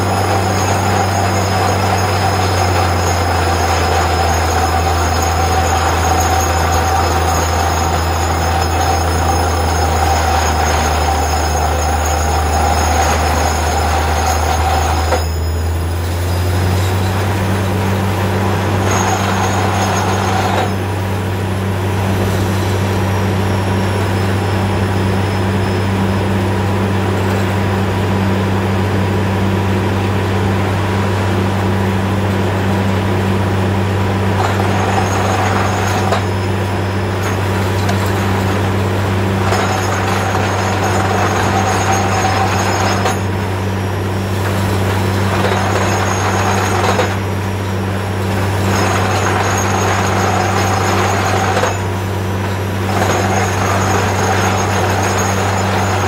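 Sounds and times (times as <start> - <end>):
drilling rig engine drone: 0.0 - 56.0.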